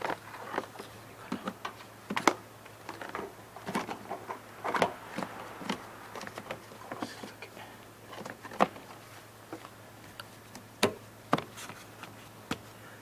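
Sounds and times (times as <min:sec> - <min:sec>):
car parts clicking and knocking: 0:00.0 - 0:12.7
low steady hum: 0:00.0 - 0:13.0.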